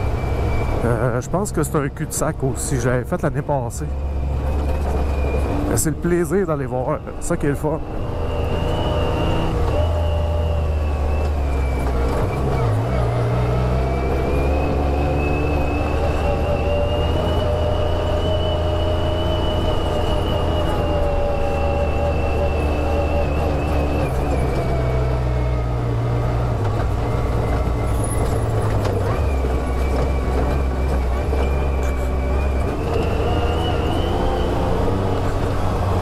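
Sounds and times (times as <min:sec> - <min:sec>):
utility vehicle engine running: 0:00.0 - 0:36.0.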